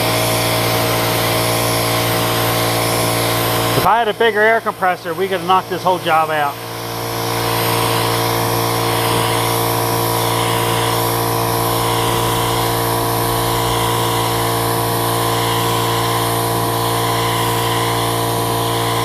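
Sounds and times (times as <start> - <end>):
air compressor running: 0.0 - 19.0.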